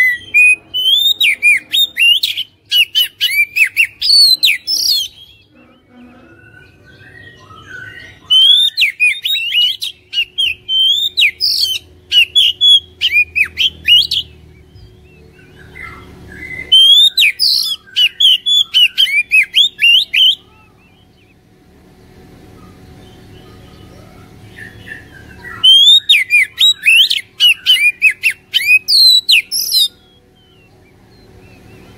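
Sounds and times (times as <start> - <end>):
bird singing whistled notes: 0.0 - 5.5, 6.4 - 21.3, 22.5 - 31.9.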